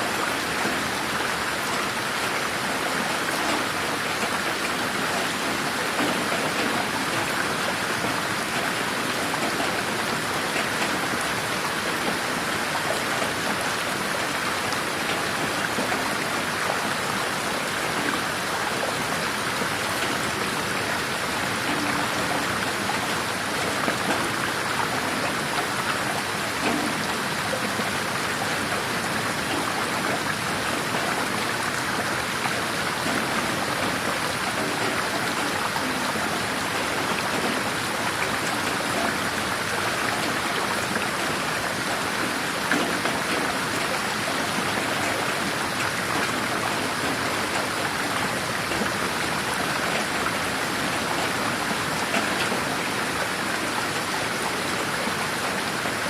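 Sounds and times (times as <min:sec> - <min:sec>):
rain falling in a garden: 0:00.0 - 0:56.0.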